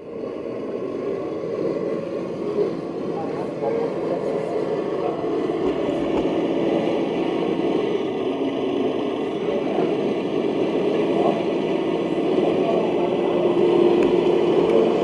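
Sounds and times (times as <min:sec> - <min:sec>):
model truck engine idling: 0:00.0 - 0:15.0.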